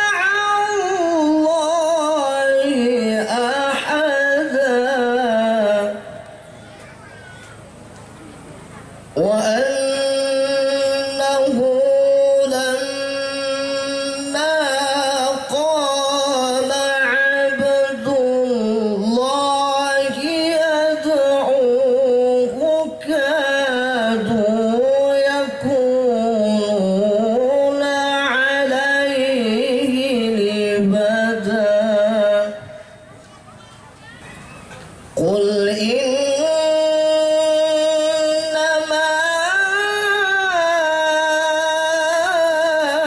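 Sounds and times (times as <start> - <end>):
man chanting melodic recitation: 0.0 - 7.6, 8.7 - 33.1, 35.1 - 43.0.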